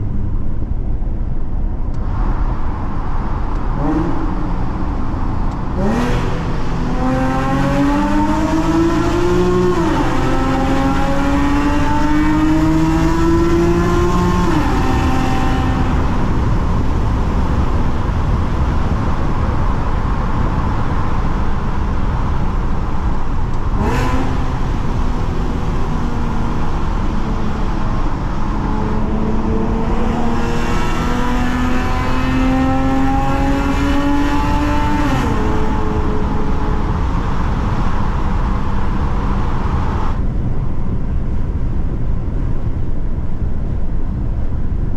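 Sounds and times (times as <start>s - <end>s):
car exhaust accelerating in tunnel: 0.0s - 44.9s.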